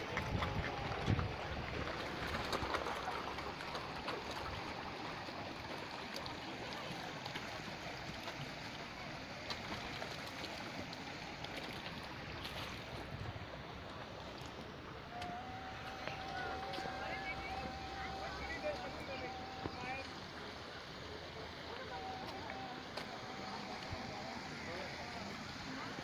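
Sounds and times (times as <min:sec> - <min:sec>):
moving water hissing: 0:00.0 - 0:26.0.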